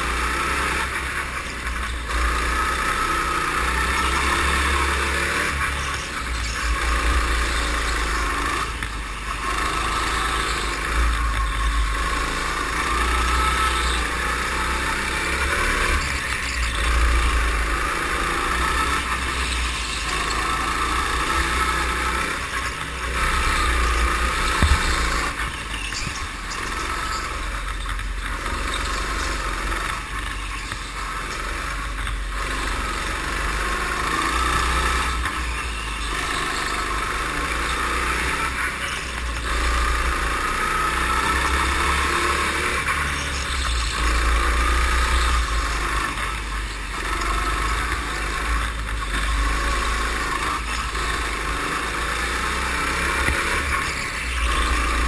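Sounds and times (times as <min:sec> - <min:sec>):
go-kart engine racing: 0:00.0 - 0:55.0.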